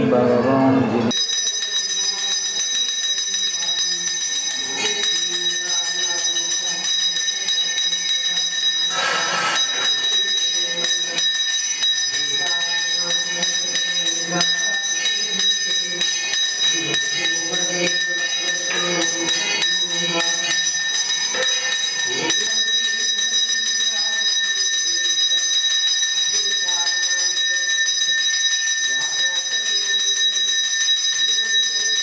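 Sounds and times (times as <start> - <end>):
temple bell ringing: 1.0 - 32.0.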